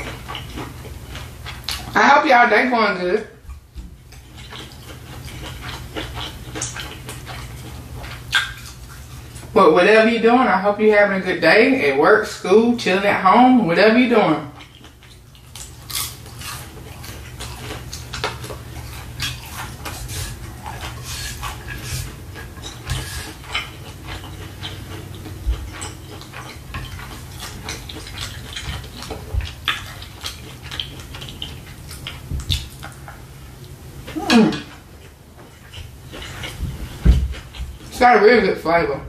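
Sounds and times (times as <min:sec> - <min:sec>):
person chewing: 0:00.0 - 0:02.0, 0:03.5 - 0:09.5, 0:14.5 - 0:38.0
steady low hum: 0:00.0 - 0:39.0.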